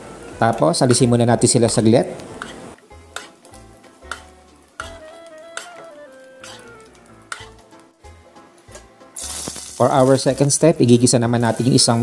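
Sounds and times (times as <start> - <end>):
food sizzling in hot oil: 2.0 - 12.0.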